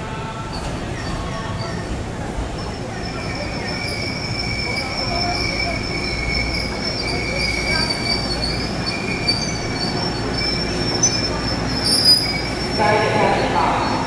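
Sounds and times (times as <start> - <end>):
train cars rumbling: 0.0 - 14.0
train wheels squealing: 0.5 - 14.0.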